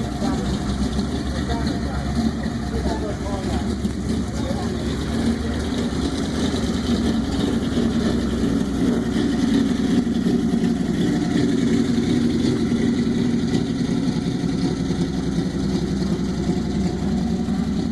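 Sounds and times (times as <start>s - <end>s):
truck engine running: 0.0s - 17.9s.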